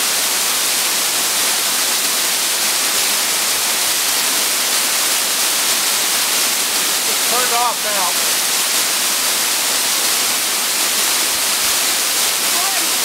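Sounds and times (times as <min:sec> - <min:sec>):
waterfall rushing hiss: 0:00.0 - 0:13.0.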